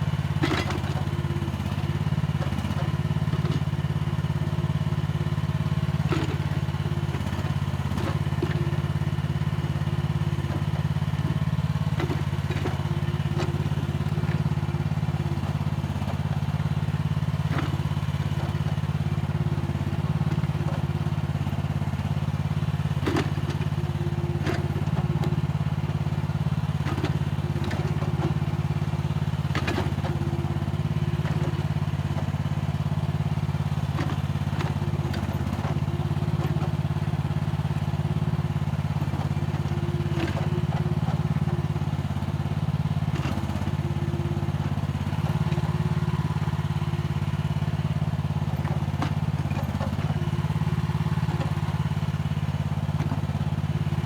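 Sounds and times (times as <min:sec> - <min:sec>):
excavator engine under load: 0:00.0 - 0:54.0.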